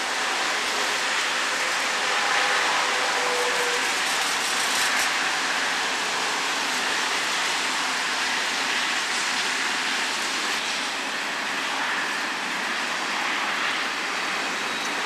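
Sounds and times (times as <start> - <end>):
rain: 0.0 - 15.0
train rushing in motion: 0.0 - 15.0.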